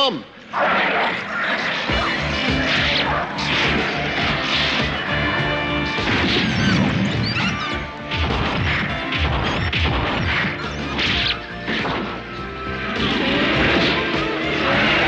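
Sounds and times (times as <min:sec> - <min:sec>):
background music: 0:01.8 - 0:15.0.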